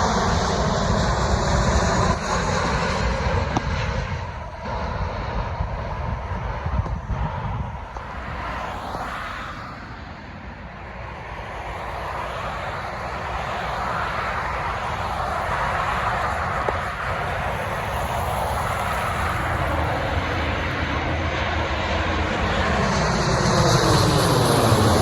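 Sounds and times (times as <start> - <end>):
jet airliner engines roaring: 0.0 - 25.0.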